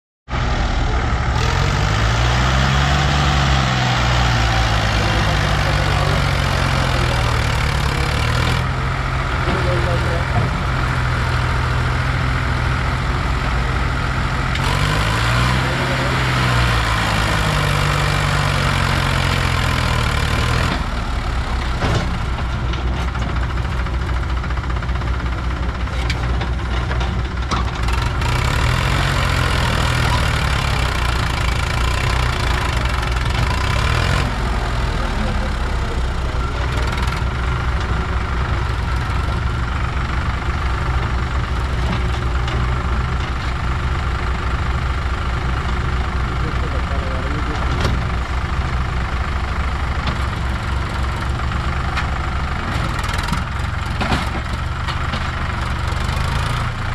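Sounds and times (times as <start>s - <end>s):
diesel engines straining under load: 0.3s - 56.9s.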